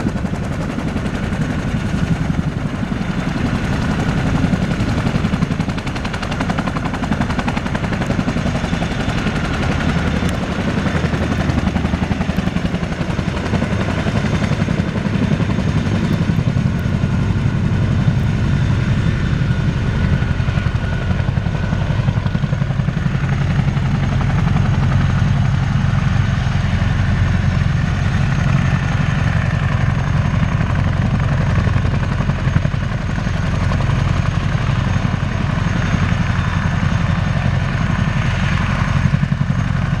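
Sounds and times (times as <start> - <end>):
helicopter rotor chop: 0.0 - 40.0
turbine engine whine: 0.0 - 40.0.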